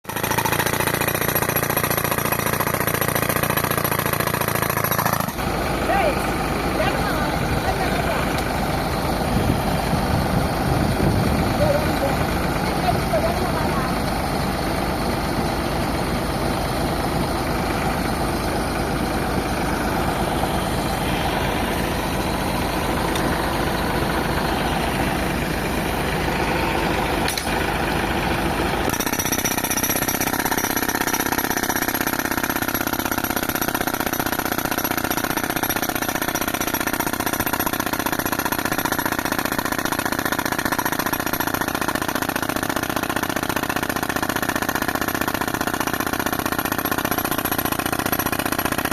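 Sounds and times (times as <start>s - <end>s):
air compressor engine running: 0.1s - 48.9s
jackhammer hammering rock: 0.1s - 48.9s.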